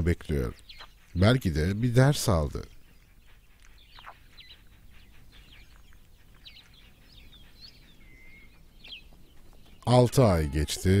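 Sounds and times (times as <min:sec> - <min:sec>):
faint bird chirps: 0:00.3 - 0:11.0.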